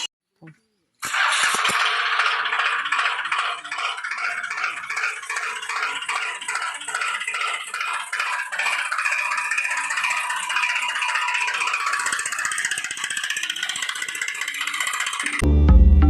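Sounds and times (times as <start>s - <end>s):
plastic toy vehicle rattling: 1.0s - 15.4s.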